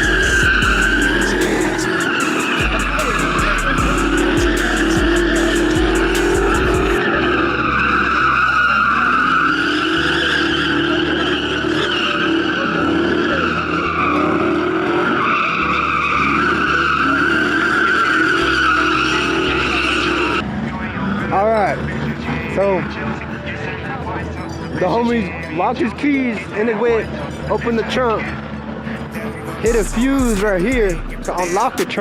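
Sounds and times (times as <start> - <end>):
engine running hard: 0.0 - 24.8, 25.4 - 32.0
tires squealing: 0.0 - 32.0.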